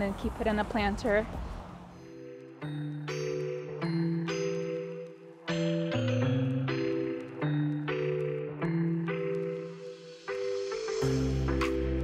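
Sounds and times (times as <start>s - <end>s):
soft music of sustained chords: 1.1s - 12.0s.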